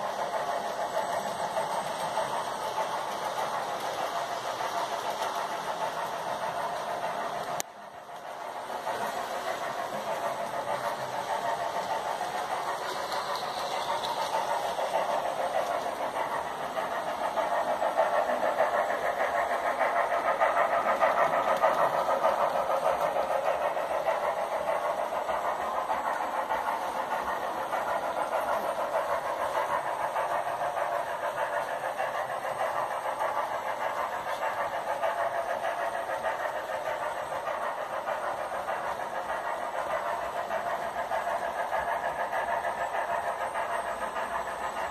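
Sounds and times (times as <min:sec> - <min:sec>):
model trains running on track: 0:00.0 - 0:44.9.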